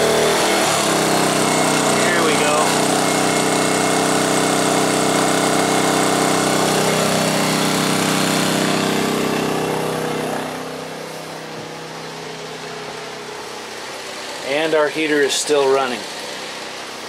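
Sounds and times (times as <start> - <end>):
generator engine running under load: 0.0 - 17.0.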